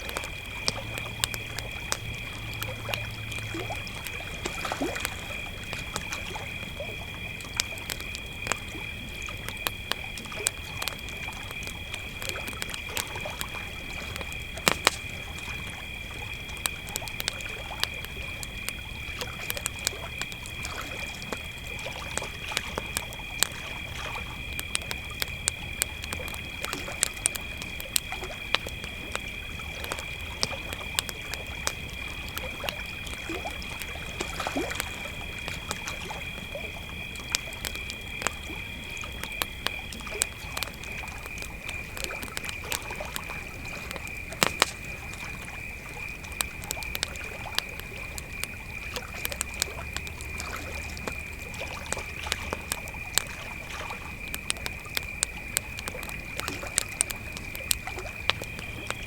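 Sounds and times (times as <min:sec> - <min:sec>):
campfire crackling and popping: 0:00.0 - 0:59.0
crickets trilling: 0:00.0 - 0:59.0
high-pitched cricket: 0:00.0 - 0:59.0.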